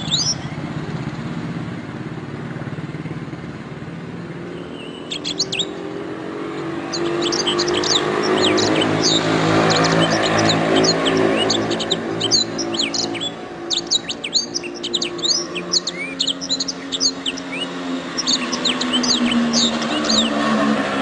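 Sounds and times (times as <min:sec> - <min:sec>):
canary singing: 0:00.0 - 0:00.5, 0:04.4 - 0:20.8.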